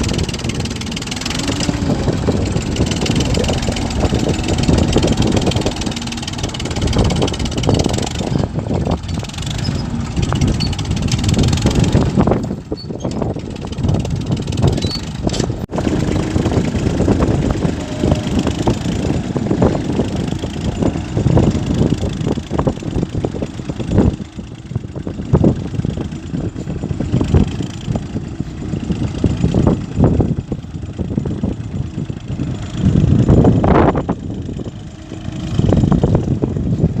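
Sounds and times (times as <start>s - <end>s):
tractor diesel engine surging: 0.0s - 37.0s.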